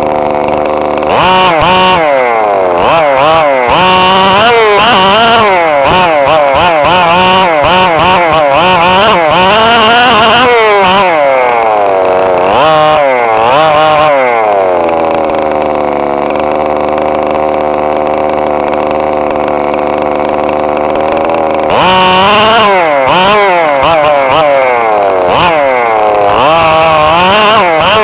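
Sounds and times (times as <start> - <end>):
rc car engine revving: 0.0 - 28.0.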